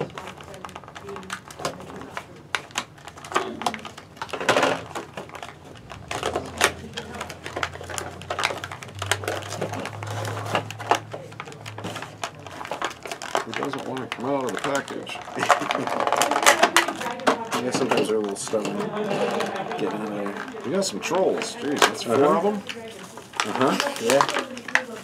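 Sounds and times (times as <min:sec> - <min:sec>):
plastic bags crinkling and clicking: 0:00.0 - 0:25.0.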